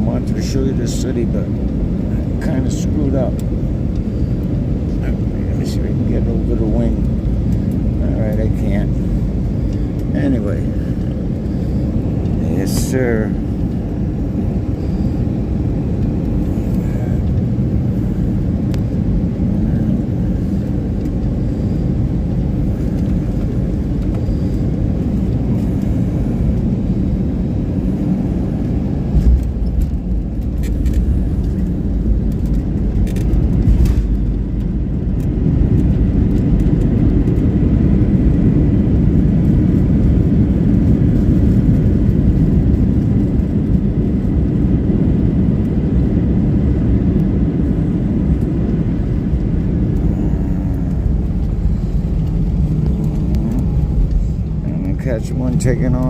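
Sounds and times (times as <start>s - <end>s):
engines and airflow rumbling: 0.0s - 56.0s
plane rolling on runway: 0.0s - 56.0s.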